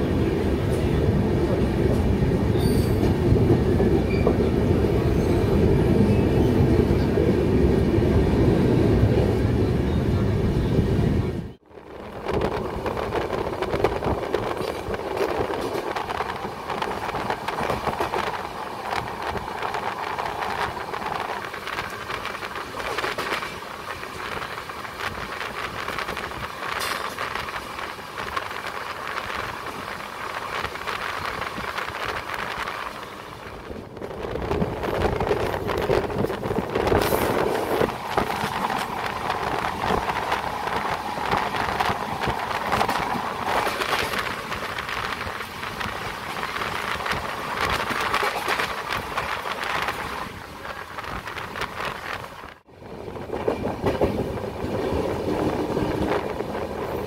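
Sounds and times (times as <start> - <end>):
train passing close by: 0.0 - 57.0
train wheels on rails: 0.0 - 57.0
wind at doorway: 0.0 - 57.0.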